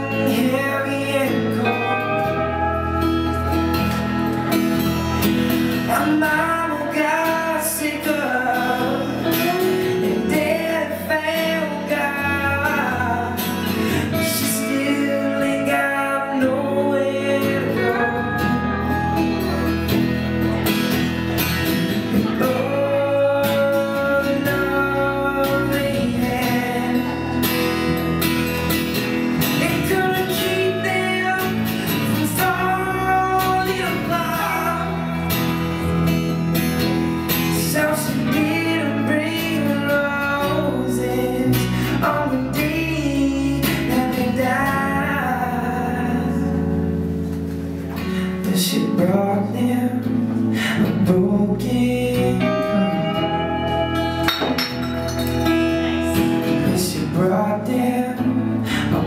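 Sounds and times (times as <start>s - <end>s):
man singing: 0.0s - 47.1s, 48.0s - 59.0s
electric bass guitar: 0.0s - 59.0s
strummed acoustic guitar: 0.0s - 59.0s.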